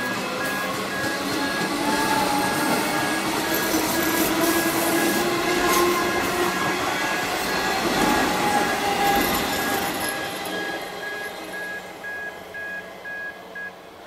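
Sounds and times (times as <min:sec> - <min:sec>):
train wheels rushing on rails: 0:00.0 - 0:12.5.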